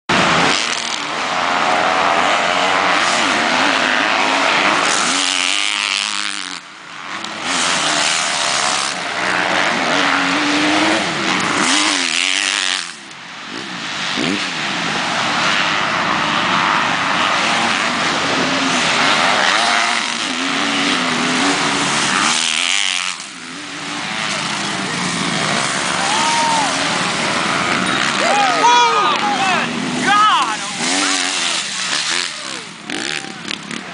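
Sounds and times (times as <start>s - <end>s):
dirt bike engines revving: 0.1s - 33.9s.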